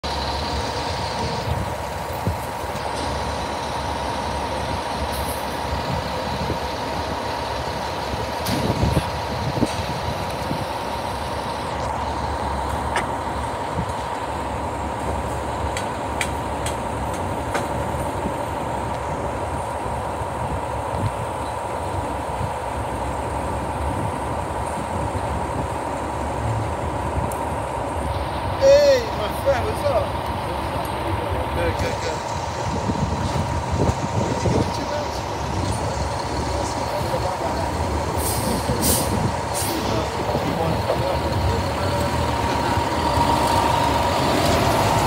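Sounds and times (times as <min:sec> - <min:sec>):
fire engine idling: 0:00.0 - 0:45.0.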